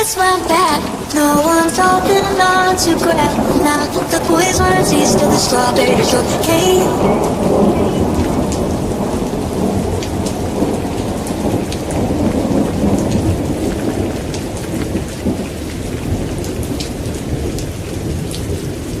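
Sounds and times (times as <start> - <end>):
heavy rain rumble: 0.0 - 19.0
raindrop ticks: 0.0 - 19.0.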